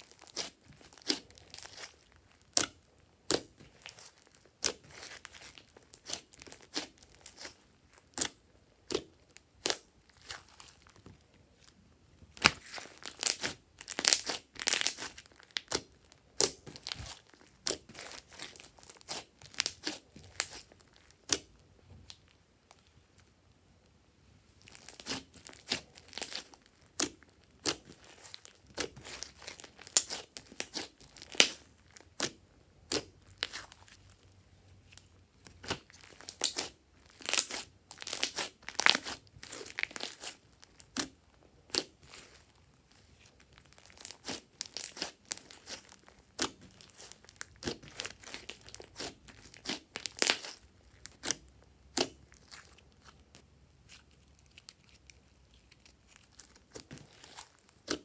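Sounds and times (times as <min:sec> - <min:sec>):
slime popping and crackling: 0:00.0 - 0:11.2, 0:12.3 - 0:22.3, 0:24.6 - 0:34.3, 0:34.9 - 0:58.0.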